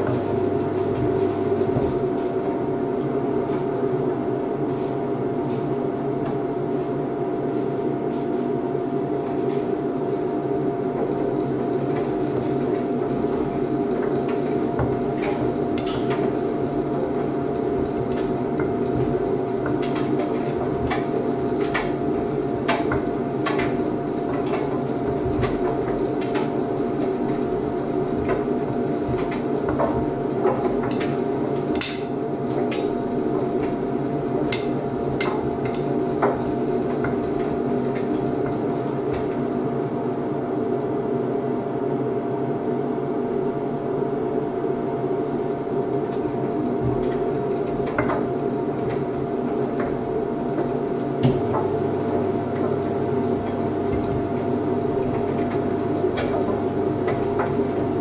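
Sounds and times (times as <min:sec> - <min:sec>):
washer-dryer motor humming: 0:00.0 - 0:58.0.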